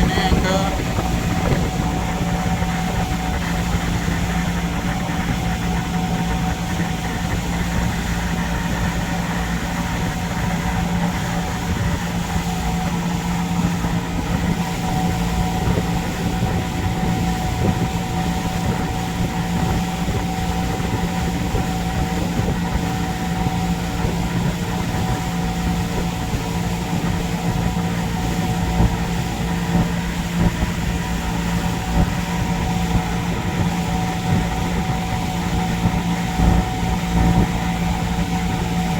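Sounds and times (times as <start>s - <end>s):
boat engine droning: 0.0s - 38.9s
rushing water noise: 0.0s - 38.9s.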